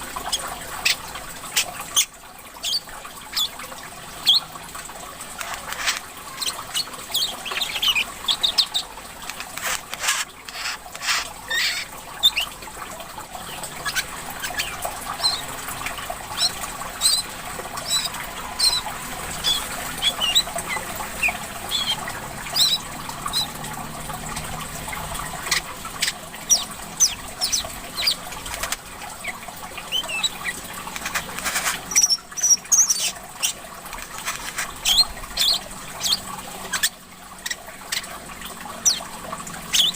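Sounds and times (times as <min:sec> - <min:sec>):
songbirds chirping and whistling: 0:00.0 - 0:04.6, 0:05.4 - 0:09.5, 0:10.5 - 0:12.6, 0:13.4 - 0:23.8, 0:24.9 - 0:39.9
water trickling: 0:00.0 - 0:39.9.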